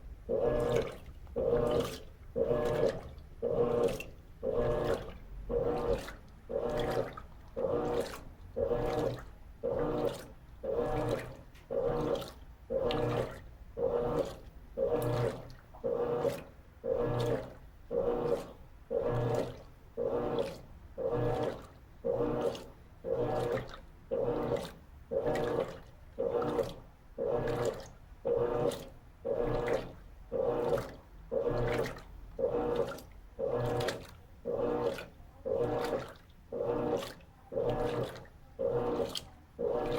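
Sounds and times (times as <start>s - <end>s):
washing machine motor humming: 0.0s - 39.9s
water sloshing: 0.0s - 39.9s.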